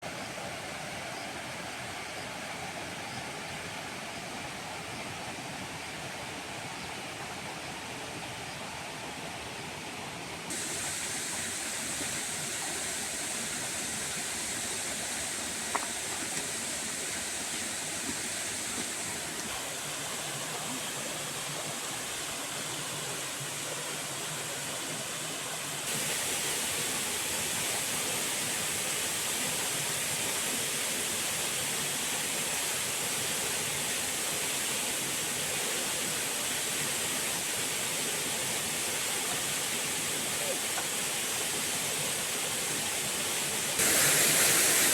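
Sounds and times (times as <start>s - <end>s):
falling water rushing: 0.0s - 44.9s.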